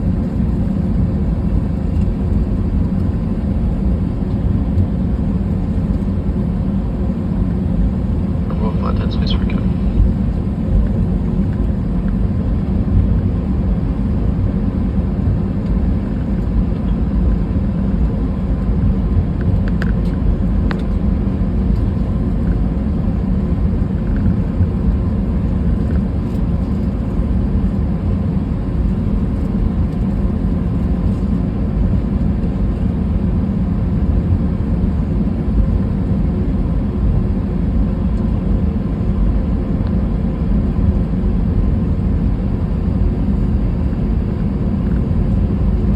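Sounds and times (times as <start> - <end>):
airliner cabin rumble: 0.0 - 45.9.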